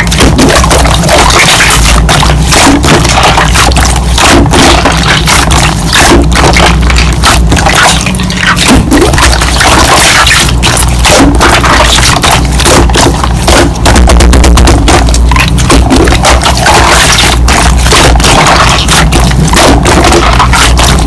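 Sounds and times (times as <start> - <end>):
slime squelching: 0.0 - 21.0.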